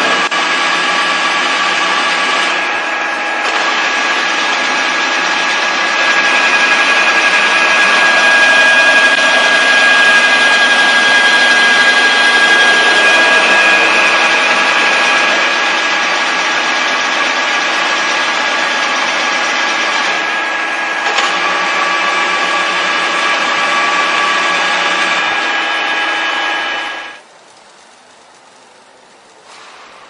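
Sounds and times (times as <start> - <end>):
milling machine cutting metal: 0.0 - 27.3
high machine whine: 0.0 - 30.0.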